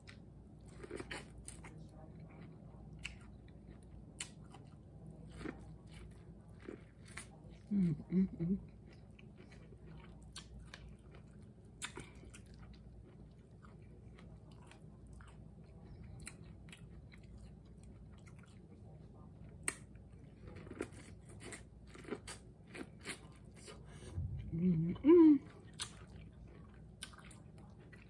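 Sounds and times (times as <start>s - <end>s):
person chewing corn on the cob: 0.0s - 23.9s, 25.5s - 28.0s.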